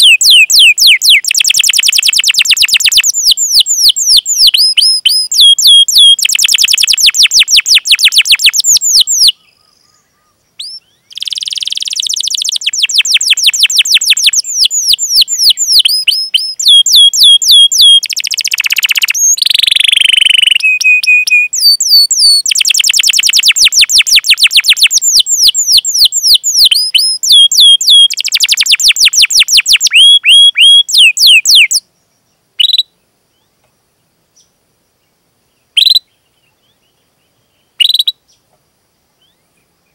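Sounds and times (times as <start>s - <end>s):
canary singing trills: 0.0s - 31.8s, 32.6s - 33.5s, 35.6s - 38.4s.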